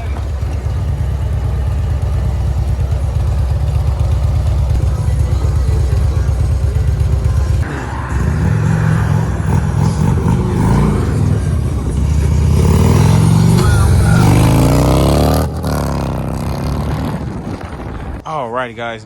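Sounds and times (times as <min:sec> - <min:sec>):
motorcycle engine rumbling: 0:00.0 - 0:18.6.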